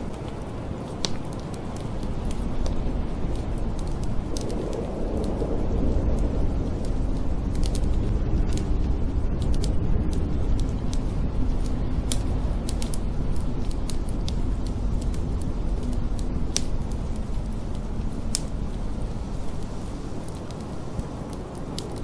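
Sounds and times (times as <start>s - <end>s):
snowstorm wind roaring: 0.0s - 22.0s
wood fire crackling and popping: 0.0s - 22.0s.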